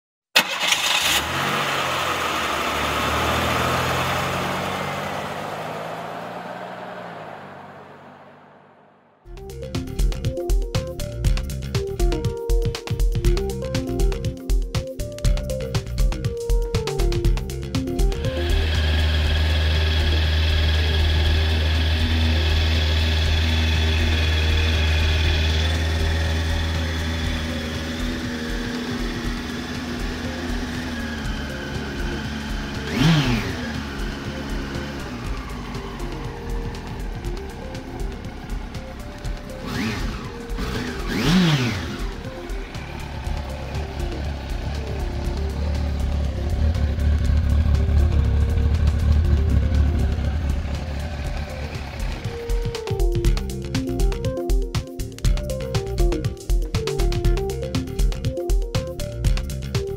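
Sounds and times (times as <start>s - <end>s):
vehicle engine starting and revving: 0.4s - 9.8s, 15.5s - 54.3s
engine running steadily: 0.4s - 14.3s, 15.0s - 59.9s.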